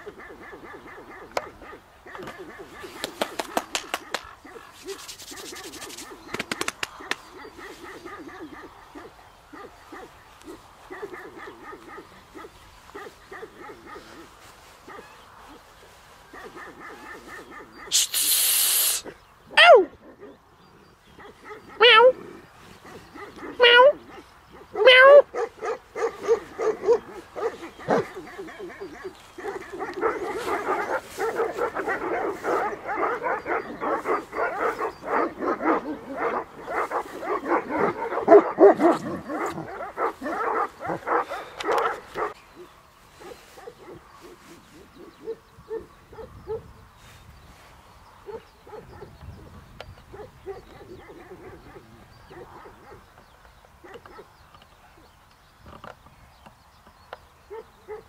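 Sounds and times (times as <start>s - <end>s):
dogs barking: 0.0s - 20.4s, 21.1s - 46.7s, 48.2s - 49.4s, 50.1s - 54.4s, 57.5s - 58.0s.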